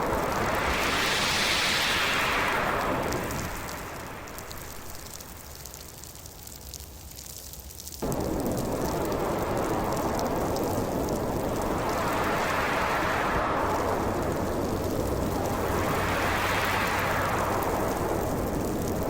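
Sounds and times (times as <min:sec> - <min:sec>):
wind gust: 0:00.0 - 0:05.5, 0:08.0 - 0:19.0
storm noise: 0:00.0 - 0:06.4, 0:08.0 - 0:19.0.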